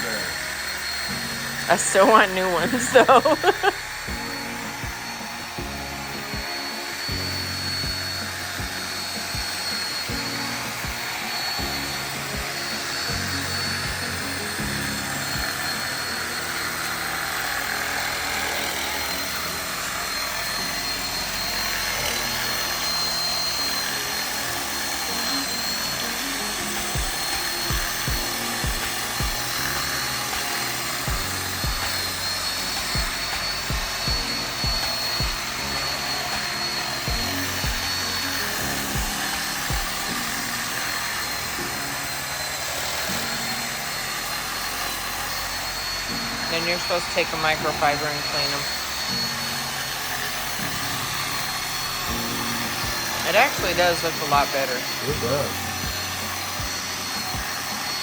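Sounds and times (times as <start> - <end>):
background music: 0.0 - 58.0
power drill buffing whine: 0.0 - 58.0.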